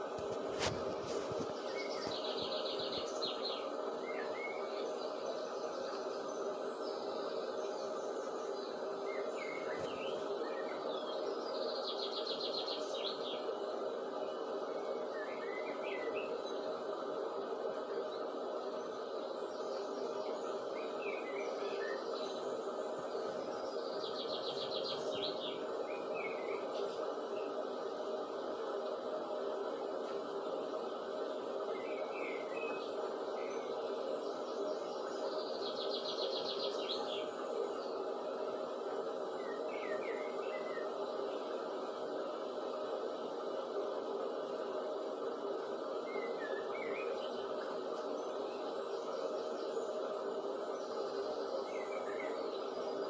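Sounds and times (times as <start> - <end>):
steady background hiss: 0.0 - 53.0
steady background noise: 0.0 - 53.0
small birds chirping: 0.1 - 16.8, 17.9 - 53.0.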